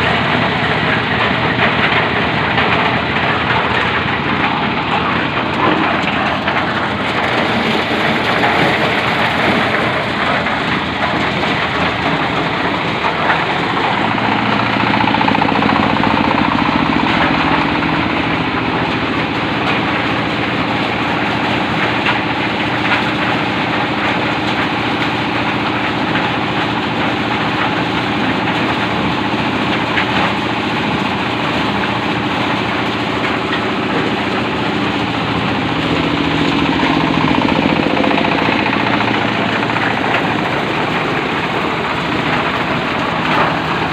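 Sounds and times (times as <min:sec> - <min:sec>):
corn-shelling machine roaring: 0:00.0 - 0:43.9.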